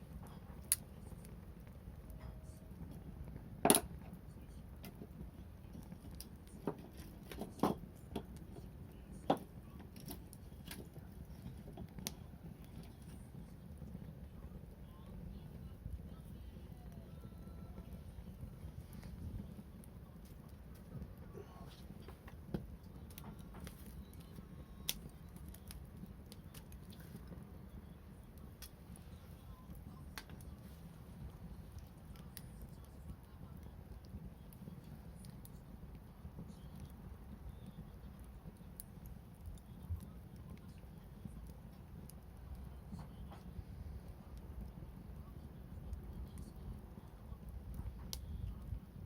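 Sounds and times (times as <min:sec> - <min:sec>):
low steady rumble: 0:00.0 - 0:49.0
wood fire crackling and popping: 0:00.0 - 0:49.0.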